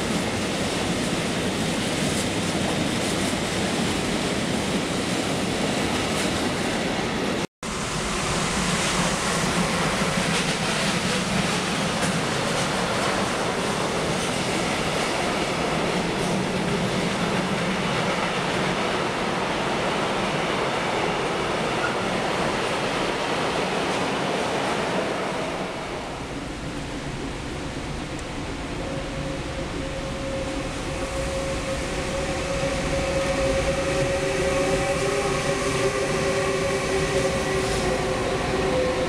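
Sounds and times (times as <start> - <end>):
train wheels rolling on rail: 0.0 - 39.0.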